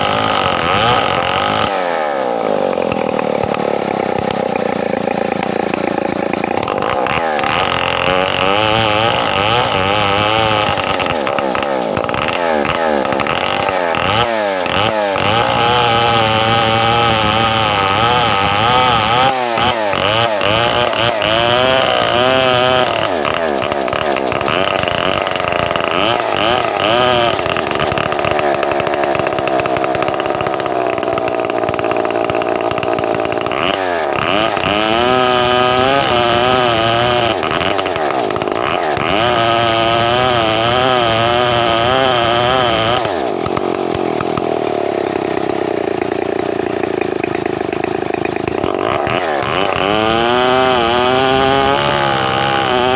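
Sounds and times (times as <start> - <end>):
chainsaw cutting timber: 0.0 - 52.9.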